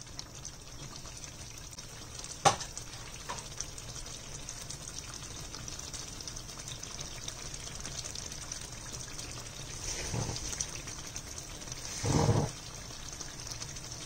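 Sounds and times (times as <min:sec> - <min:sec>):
curry bubbling in a pan: 0:00.0 - 0:14.0.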